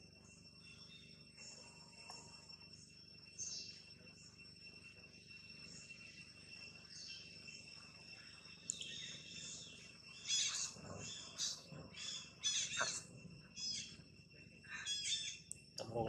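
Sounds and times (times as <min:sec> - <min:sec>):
high insect drone: 0:00.0 - 0:16.0
birds chirping: 0:00.2 - 0:16.0.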